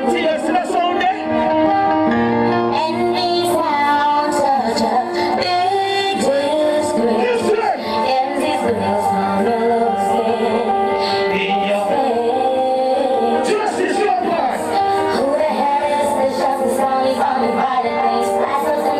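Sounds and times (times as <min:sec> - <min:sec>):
loud music with sung vocal: 0:00.0 - 0:18.9.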